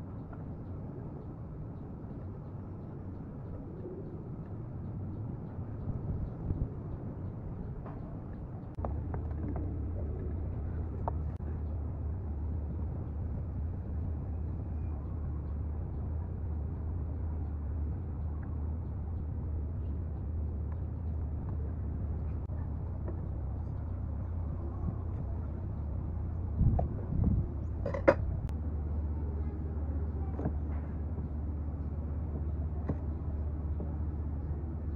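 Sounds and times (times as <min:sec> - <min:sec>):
low motor hum: 0:00.0 - 0:34.9.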